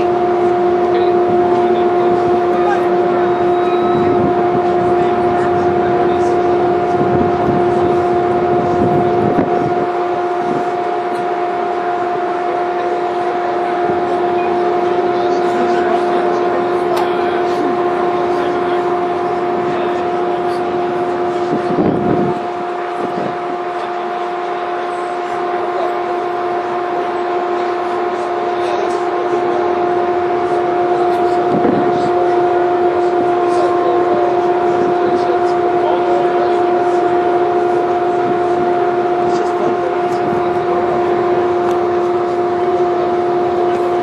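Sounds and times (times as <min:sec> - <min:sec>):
two-tone mechanical hum: 0:00.0 - 0:44.0.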